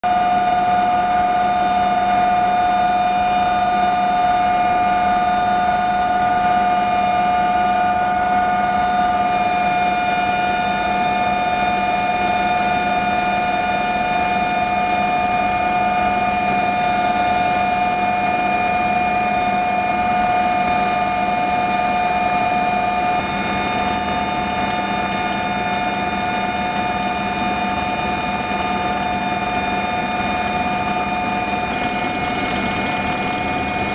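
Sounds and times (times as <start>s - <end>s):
aircraft engines droning in cabin: 0.1s - 33.9s.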